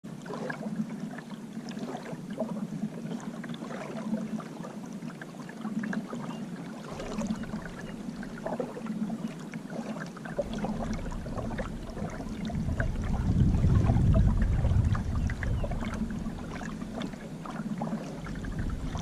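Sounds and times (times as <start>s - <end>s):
low water swell: 0.1s - 19.0s
water splashing against kayak hull: 0.1s - 19.0s.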